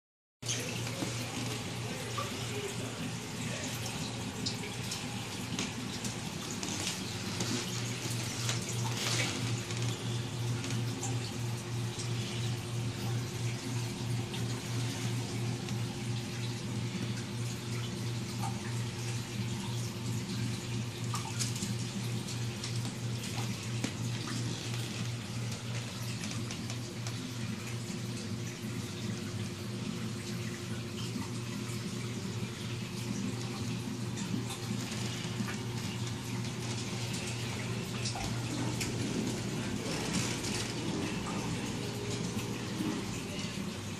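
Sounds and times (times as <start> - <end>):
pump hum: 0.4 - 43.9
water rushing and trickling: 0.4 - 43.9.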